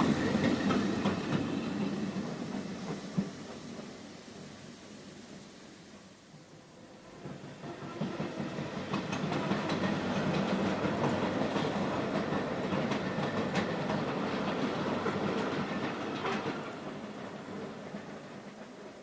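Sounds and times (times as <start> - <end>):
railway wagons rolling: 0.0 - 19.0.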